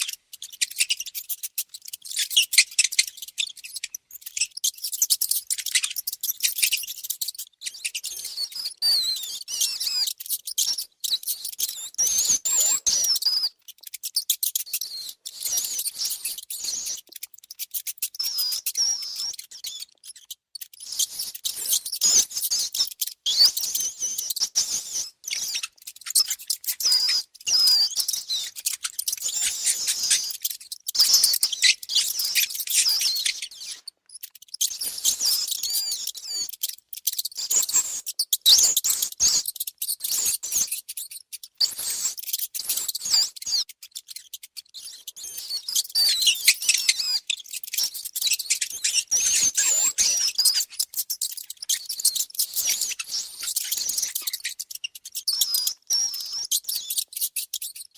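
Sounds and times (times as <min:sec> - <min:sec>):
mice squeaking: 0:00.0 - 0:57.9.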